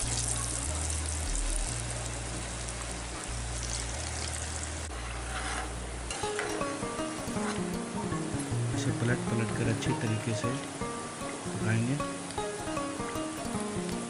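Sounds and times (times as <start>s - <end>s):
hot oil sizzling and bubbling: 0.0s - 14.0s.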